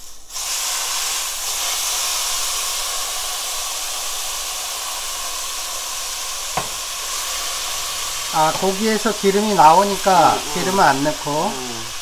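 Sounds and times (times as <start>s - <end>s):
beef sizzling in a frying pan: 0.0s - 12.0s.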